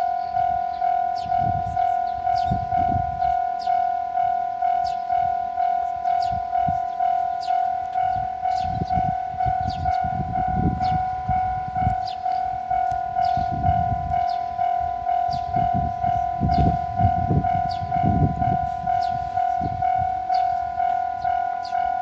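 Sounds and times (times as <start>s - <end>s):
level crossing warning bell: 0.0s - 22.0s.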